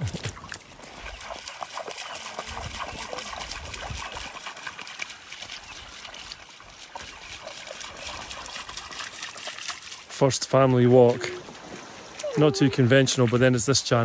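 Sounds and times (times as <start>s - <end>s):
shallow water trickling and splashing: 0.0s - 14.0s.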